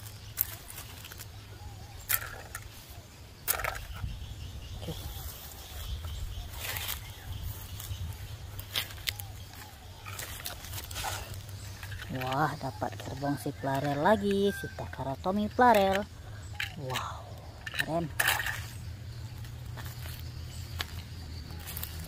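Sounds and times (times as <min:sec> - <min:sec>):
rustling in grass and leaves: 0:00.0 - 0:22.0.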